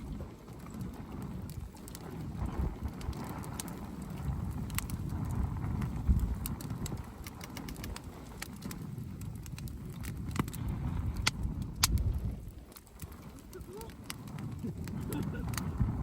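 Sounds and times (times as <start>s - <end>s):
campfire crackling and popping: 0.0s - 16.0s
low uneven rumble: 0.0s - 16.0s.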